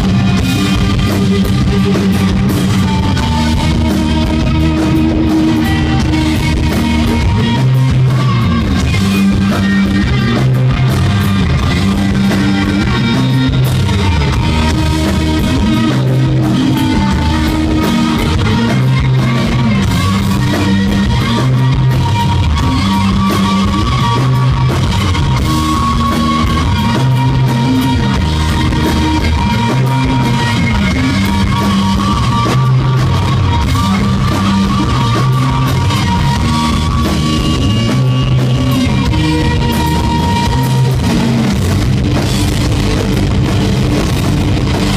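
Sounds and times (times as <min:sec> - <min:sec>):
bass guitar: 0:00.0 - 0:44.9
distorted electric guitar: 0:00.0 - 0:44.9
drum kit: 0:00.0 - 0:44.9.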